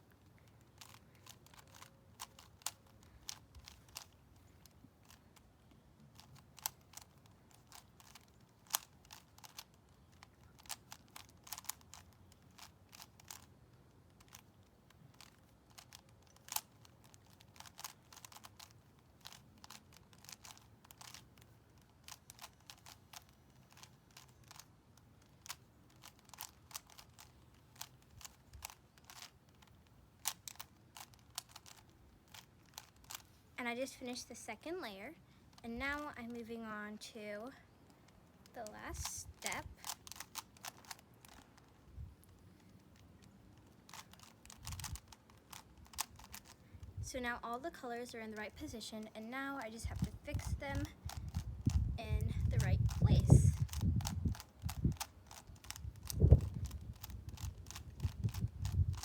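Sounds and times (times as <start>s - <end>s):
plastic puzzle cube clicking: 0.1s - 33.4s, 38.0s - 47.0s, 49.6s - 59.0s.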